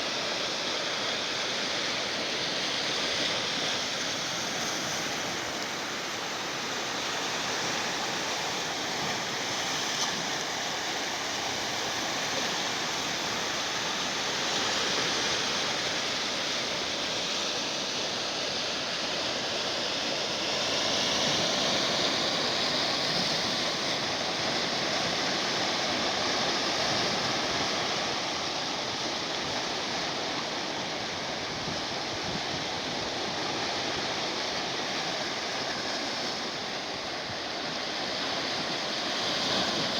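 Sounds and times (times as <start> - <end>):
sea surf washing onto shore: 0.0 - 39.9.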